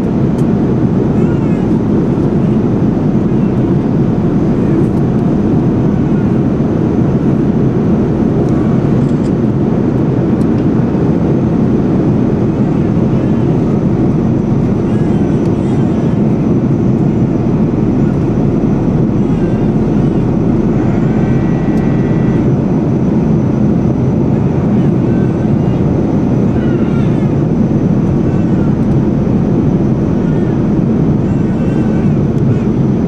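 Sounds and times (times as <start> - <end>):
airliner cabin engine rush: 0.0 - 33.0.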